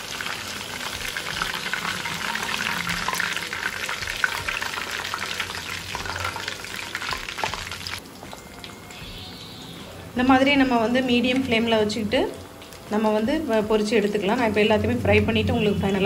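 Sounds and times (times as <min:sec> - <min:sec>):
meat deep-frying in hot oil: 0:00.0 - 0:14.7.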